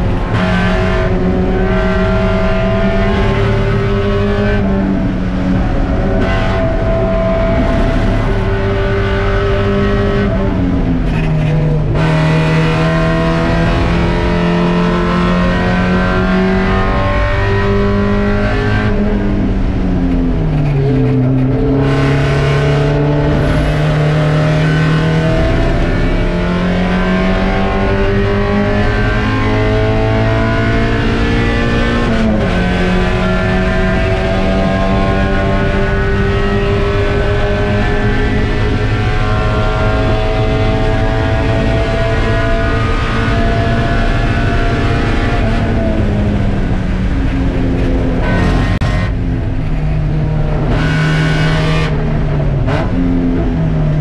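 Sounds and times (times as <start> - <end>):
race car engine running hard: 0.0 - 54.0.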